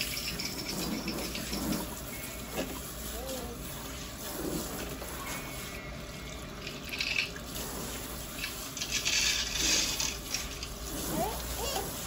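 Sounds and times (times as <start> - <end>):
water spraying onto hair: 0.0 - 12.0.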